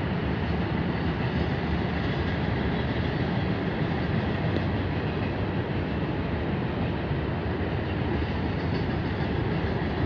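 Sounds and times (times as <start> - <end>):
freight train rolling past: 0.0 - 10.0.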